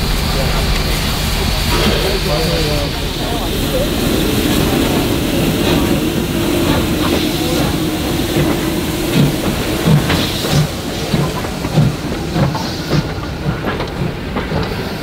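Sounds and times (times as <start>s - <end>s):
low rhythmic thuds: 0.0s - 15.0s
steam hissing: 0.0s - 15.0s
steam locomotive rolling: 0.0s - 15.0s.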